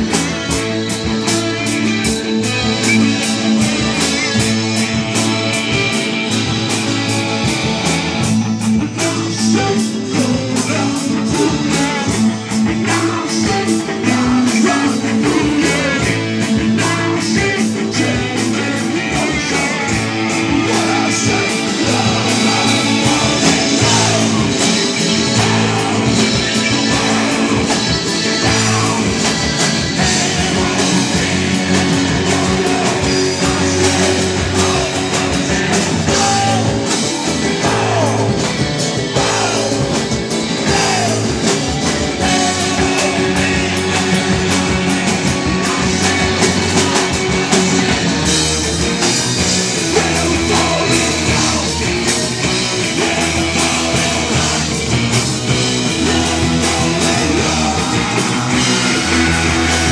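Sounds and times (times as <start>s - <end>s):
live rock band playing: 0.0s - 59.9s
man singing: 8.7s - 59.9s.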